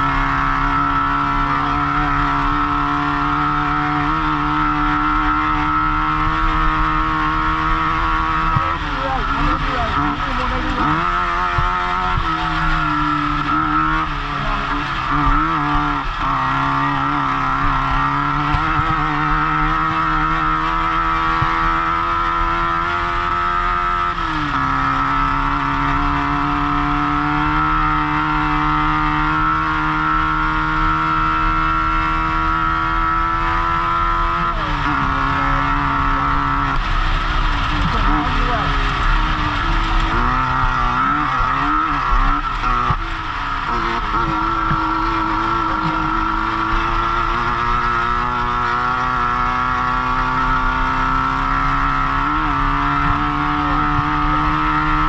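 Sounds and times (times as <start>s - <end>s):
car noise at speed: 0.0s - 55.0s
race car engine running hard: 0.0s - 55.0s.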